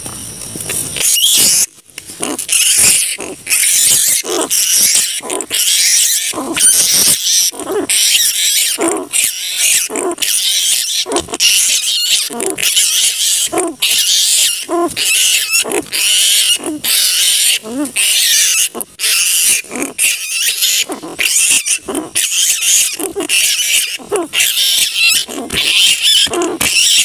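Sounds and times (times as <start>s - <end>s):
flying foxes screeching and chattering: 0.9s - 27.0s.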